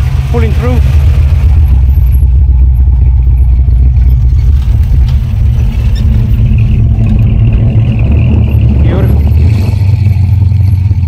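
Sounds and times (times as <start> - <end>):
car exhaust deep rumble: 0.0 - 11.0.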